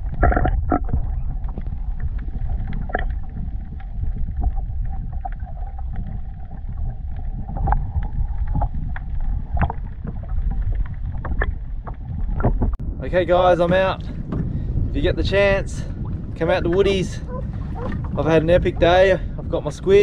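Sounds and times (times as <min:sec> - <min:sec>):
underwater rumble of moving water: 0:00.0 - 0:20.0.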